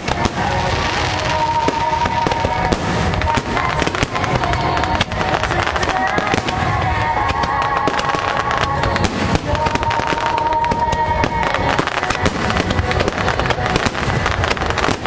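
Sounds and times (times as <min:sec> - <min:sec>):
continuous rumble: 0:00.0 - 0:15.0
fireworks bursting and crackling: 0:00.0 - 0:15.0
music: 0:00.0 - 0:15.0.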